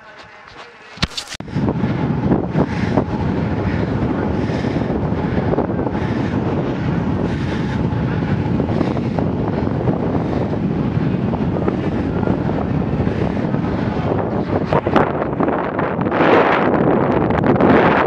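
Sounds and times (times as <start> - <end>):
wind buffeting microphone: 1.4 - 18.0.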